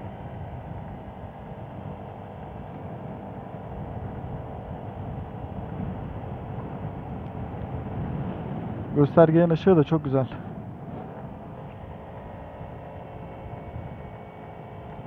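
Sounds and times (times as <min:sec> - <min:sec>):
scooter engine drone: 0:00.0 - 0:15.0
wind and road noise: 0:00.0 - 0:15.0.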